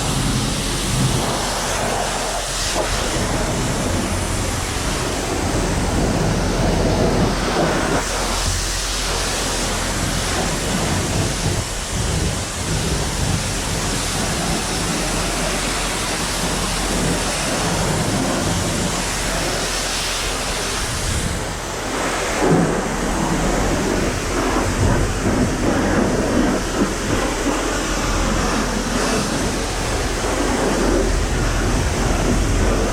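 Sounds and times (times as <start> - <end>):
pressure washer water spraying: 0.0 - 32.9.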